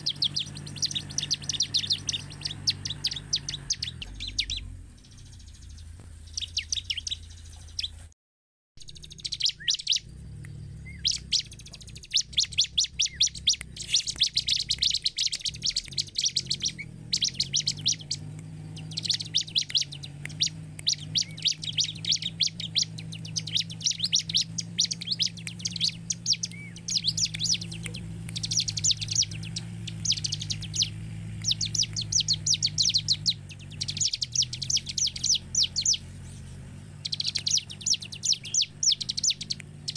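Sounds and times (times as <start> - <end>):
bird chirping: 0.0 - 8.1, 8.8 - 39.9.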